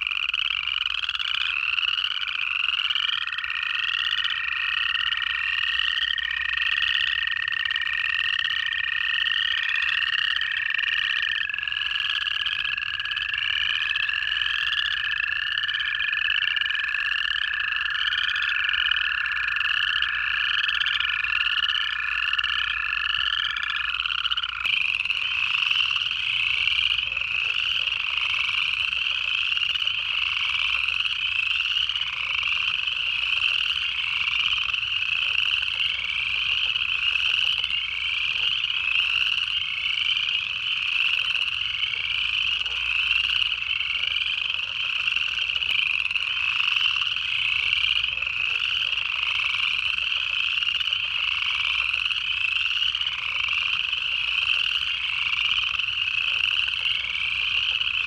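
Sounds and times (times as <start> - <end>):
chorus frogs trilling: 0.0 - 58.0
frogs chuckling low: 0.0 - 58.0
toads trilling: 0.0 - 58.0.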